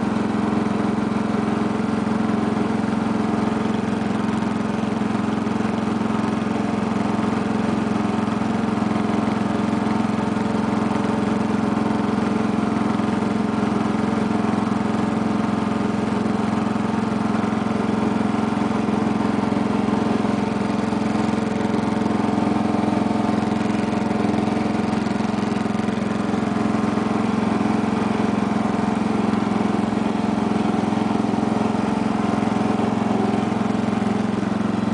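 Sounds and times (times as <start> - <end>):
lawn tractor engine running: 0.0 - 34.9.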